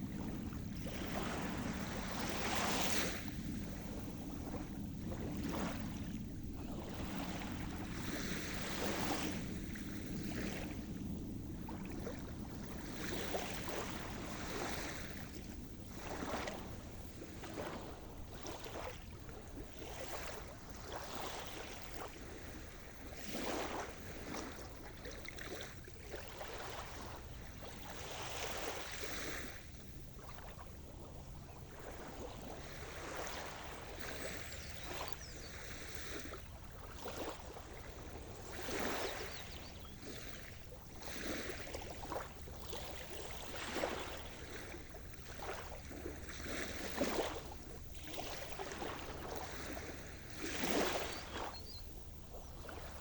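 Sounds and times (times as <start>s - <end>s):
small waves splashing: 0.0s - 53.0s.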